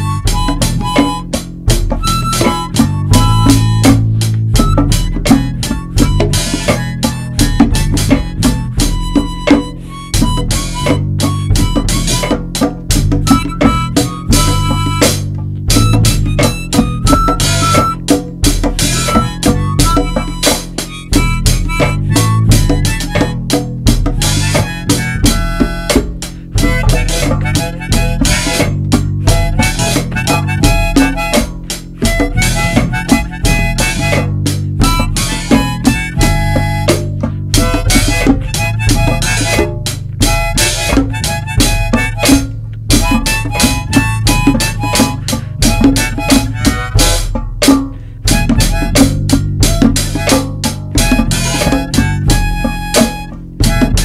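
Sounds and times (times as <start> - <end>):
harmonica: 0.0 - 47.4, 48.0 - 54.0
bass: 0.0 - 54.0
blues-rock band music: 0.0 - 54.0
drum beat: 0.0 - 54.0
guitar: 0.0 - 54.0.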